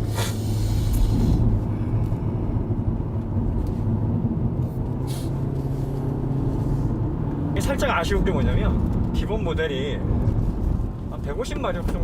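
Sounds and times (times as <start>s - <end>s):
car engine at high revs: 0.0s - 12.0s
road and tyre noise: 0.0s - 12.0s.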